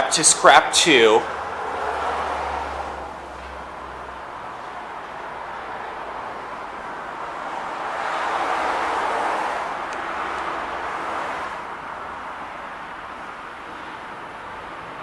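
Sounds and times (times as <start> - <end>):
vehicle passing: 0.1 - 15.0.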